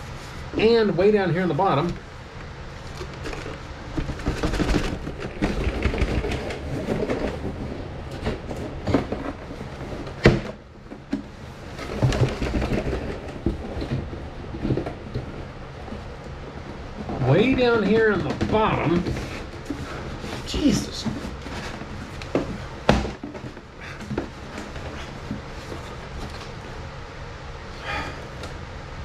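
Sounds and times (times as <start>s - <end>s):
cardboard box rustling and scraping: 2.6s - 26.8s.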